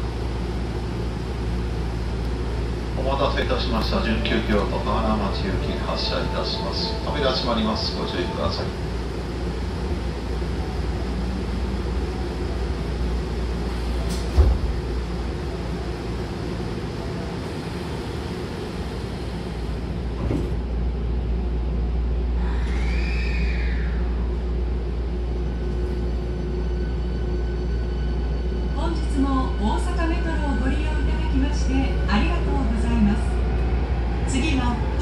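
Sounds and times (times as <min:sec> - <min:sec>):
train humming: 0:00.0 - 0:35.0.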